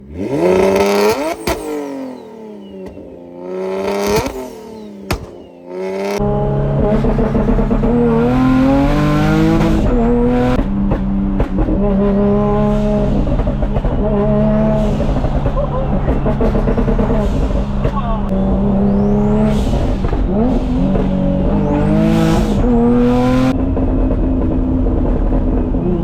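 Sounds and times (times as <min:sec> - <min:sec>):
car engine revving: 0:00.0 - 0:26.0
exhaust crack: 0:00.0 - 0:26.0.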